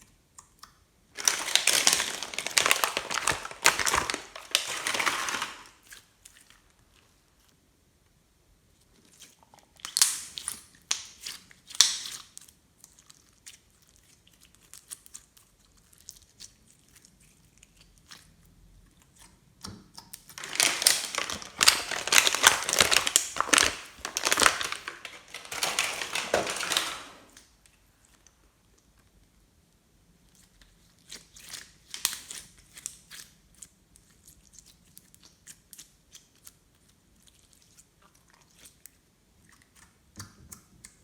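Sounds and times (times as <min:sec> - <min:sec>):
slime crinkling and crunching: 0:01.1 - 0:07.6, 0:08.8 - 0:19.3, 0:20.0 - 0:28.9, 0:30.2 - 0:39.9.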